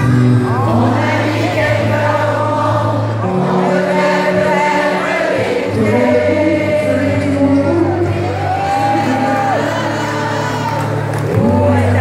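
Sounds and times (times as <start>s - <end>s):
electric and acoustic guitars: 0.0s - 12.0s
voices singing together: 0.2s - 12.0s.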